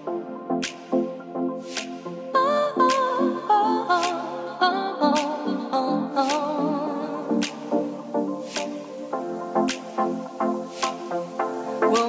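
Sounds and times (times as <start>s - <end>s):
wavering melody over steady beat: 0.0s - 12.0s.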